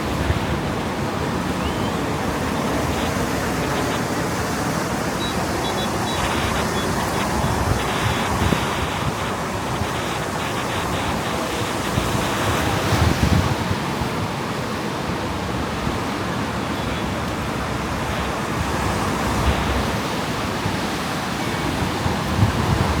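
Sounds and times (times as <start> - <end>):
wind buffeting microphone: 0.0 - 16.6, 17.4 - 23.0
ocean surf washing in: 0.0 - 23.0.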